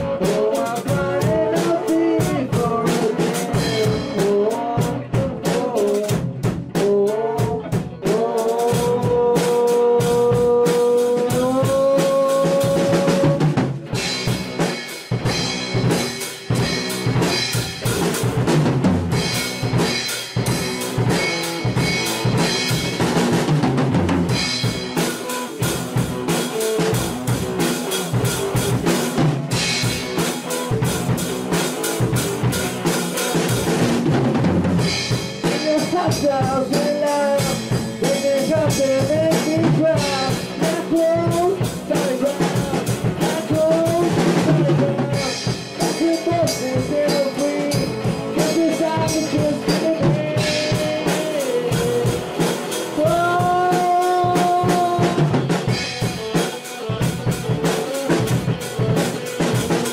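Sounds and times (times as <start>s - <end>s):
drum kit: 0.0s - 59.9s
rock band playing live: 0.0s - 59.9s.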